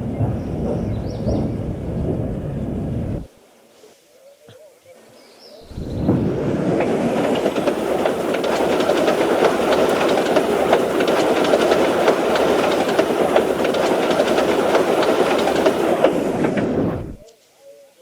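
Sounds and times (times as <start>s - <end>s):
train rumbling and clicking: 0.0s - 3.3s, 5.7s - 17.2s.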